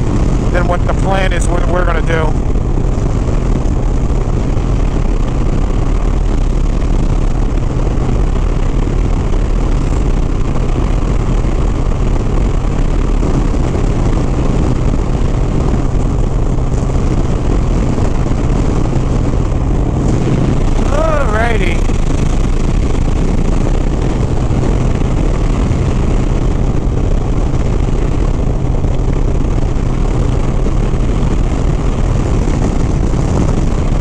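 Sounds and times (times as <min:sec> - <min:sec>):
wind and road noise: 0:00.0 - 0:34.0
motorcycle engine cruising: 0:01.8 - 0:34.0.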